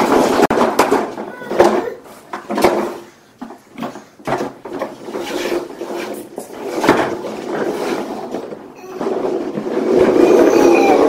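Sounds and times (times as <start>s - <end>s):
toy truck rolling on wooden floor: 0.0s - 11.0s.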